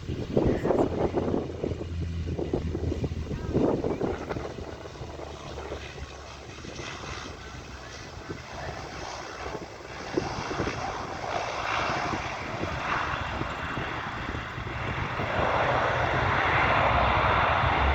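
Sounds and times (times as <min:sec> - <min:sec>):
turboprop aircraft engines and propellers: 0:00.0 - 0:17.9.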